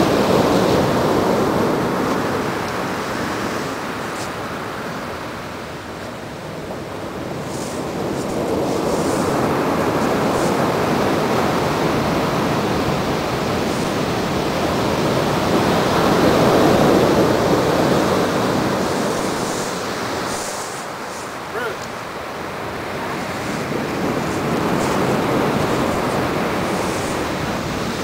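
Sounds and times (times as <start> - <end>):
surf breaking on beach: 0.0 - 28.0.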